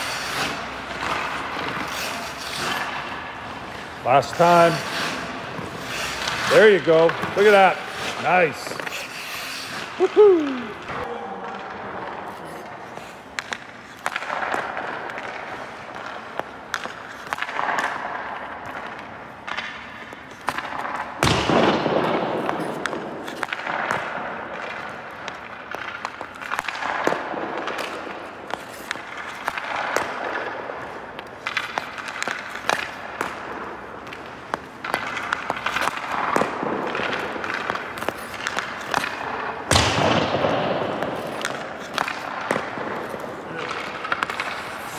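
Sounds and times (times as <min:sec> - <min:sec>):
pucks hitting goalie: 0:00.0 - 0:08.9, 0:10.7 - 0:44.9
hockey stick hitting pucks: 0:00.0 - 0:44.9
skates scraping ice: 0:00.0 - 0:44.9.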